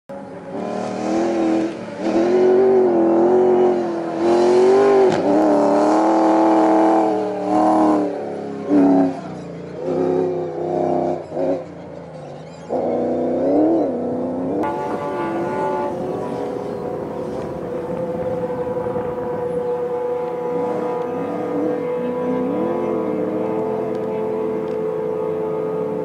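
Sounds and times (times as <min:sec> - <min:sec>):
rally truck engine revving: 0:00.2 - 0:26.0.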